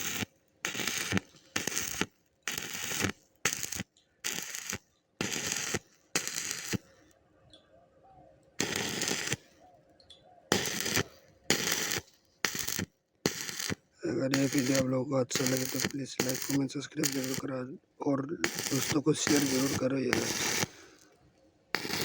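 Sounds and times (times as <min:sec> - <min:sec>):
arc welding crackling: 0:00.0 - 0:06.9, 0:08.6 - 0:09.5, 0:10.5 - 0:17.6, 0:18.4 - 0:21.1, 0:21.7 - 0:22.0.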